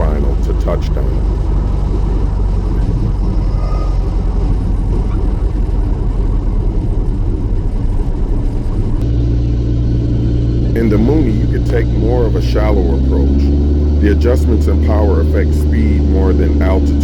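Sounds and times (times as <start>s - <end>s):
light airplane engine droning: 0.0s - 17.0s.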